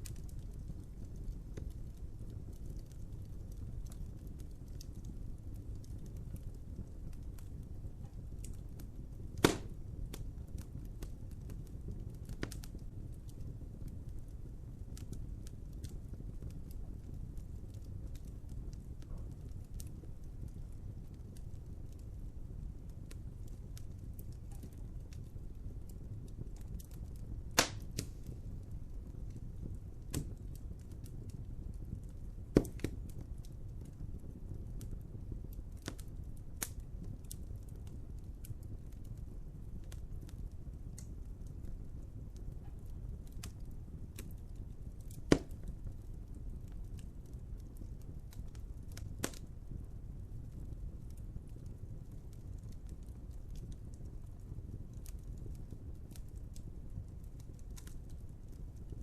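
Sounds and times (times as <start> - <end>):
sharp pops from fire: 0.0 - 49.8, 50.5 - 59.0
wood fire crackling: 0.0 - 59.0.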